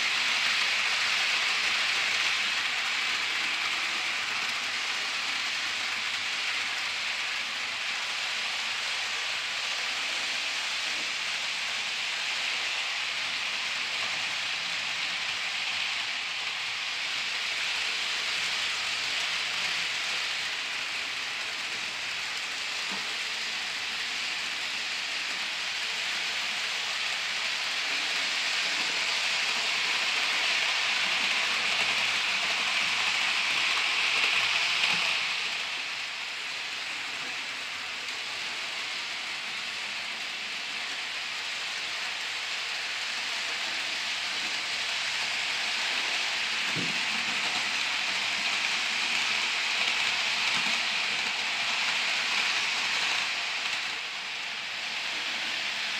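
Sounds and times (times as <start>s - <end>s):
model trains whirring on track: 0.0s - 55.9s.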